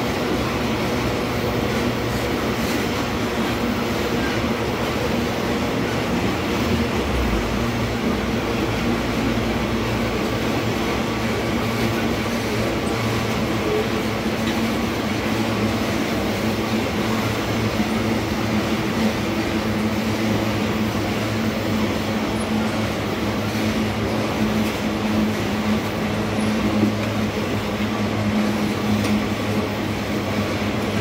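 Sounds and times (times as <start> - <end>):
steel wheels running on rails: 0.0 - 31.0.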